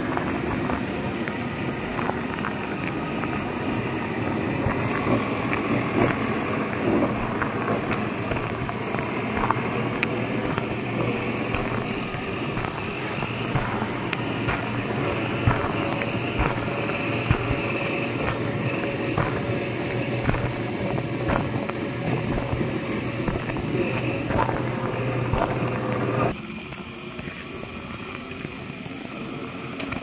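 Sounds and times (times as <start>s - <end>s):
stones crunching under tyres: 0.0s - 26.4s
electric motor whine: 0.0s - 30.0s.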